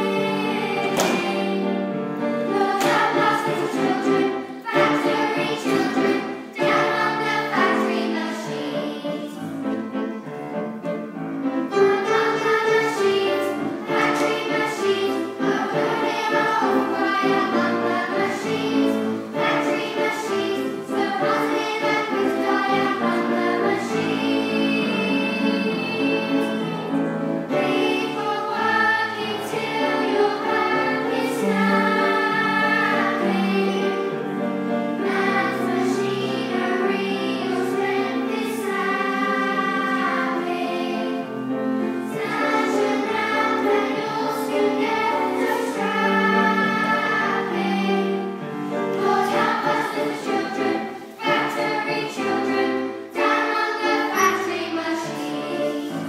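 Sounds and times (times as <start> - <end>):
children's choir singing: 0.0 - 56.0
musical backing: 0.0 - 56.0.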